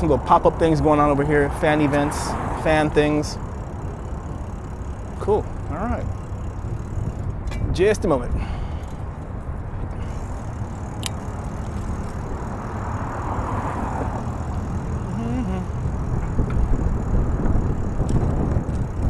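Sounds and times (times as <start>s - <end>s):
distant road traffic: 0.0s - 19.0s
wind: 0.0s - 19.0s.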